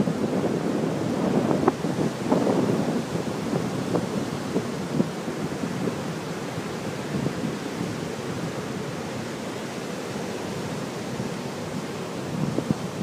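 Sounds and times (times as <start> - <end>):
waves on a pebble beach: 0.0 - 13.0
wind: 0.0 - 13.0.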